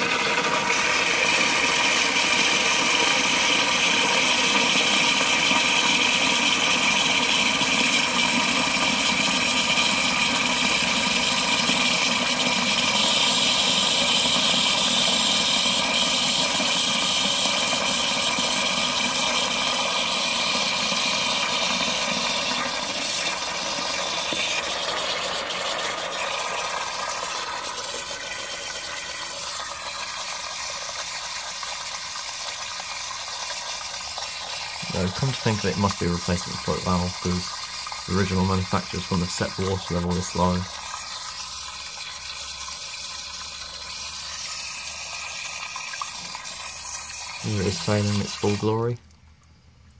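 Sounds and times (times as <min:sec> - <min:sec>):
water hissing through toilet valve: 0:00.0 - 0:49.0
water splashing into tank: 0:00.0 - 0:49.5.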